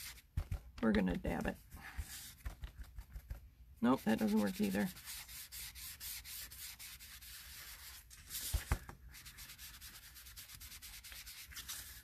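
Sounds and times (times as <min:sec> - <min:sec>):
sponge rubbing on cardstock: 0:01.8 - 0:03.3, 0:03.9 - 0:12.0.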